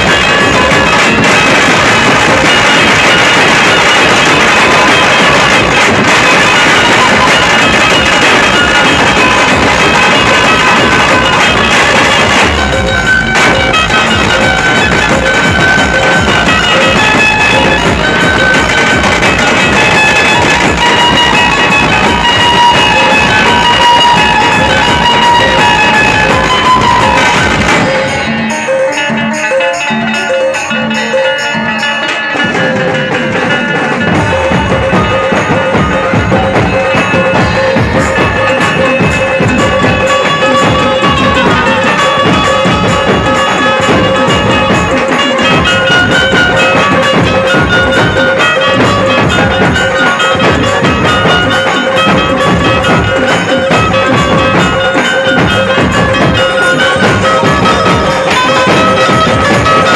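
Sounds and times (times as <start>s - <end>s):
folk band with drums over loudspeakers: 0.0s - 59.9s.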